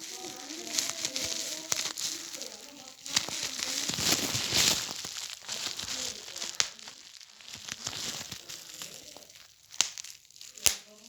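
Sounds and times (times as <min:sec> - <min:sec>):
toy crinkling and crackling: 0:00.0 - 0:11.0.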